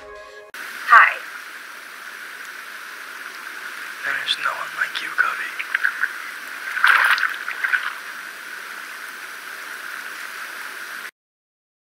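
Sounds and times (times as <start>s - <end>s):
hot tub water bubbling: 1.3s - 11.1s.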